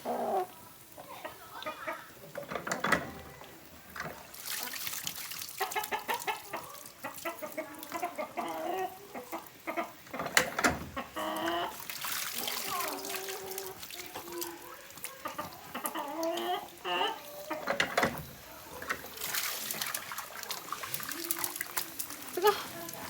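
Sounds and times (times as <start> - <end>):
chickens clucking: 0.0 - 23.0
water splashing in a bowl: 1.4 - 23.0.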